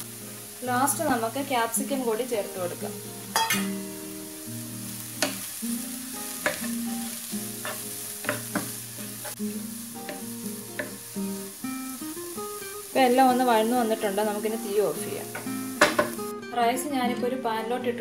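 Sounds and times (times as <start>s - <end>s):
vegetables sizzling in a pan: 0.0s - 16.4s.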